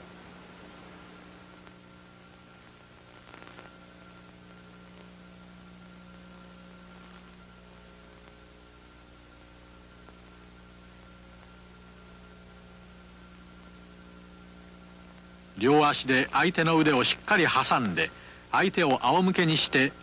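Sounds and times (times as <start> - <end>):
electrical hum with hiss: 0.0 - 20.0.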